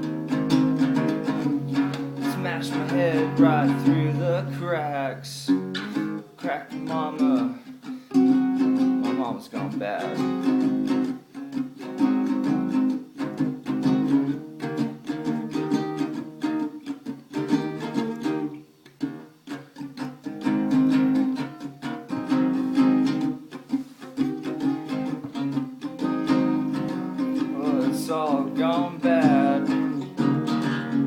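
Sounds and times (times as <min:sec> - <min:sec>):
acoustic guitar strumming blues: 0:00.0 - 0:31.0.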